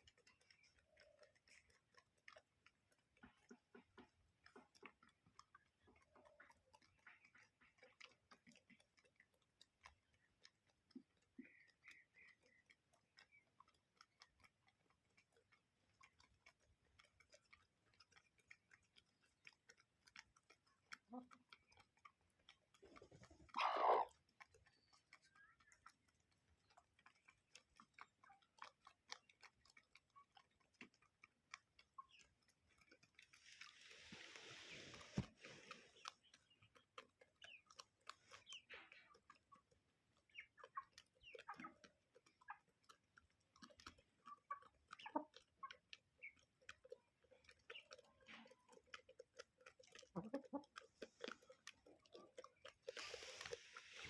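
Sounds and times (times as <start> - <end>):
chickens pecking feed: 0.0 - 54.0.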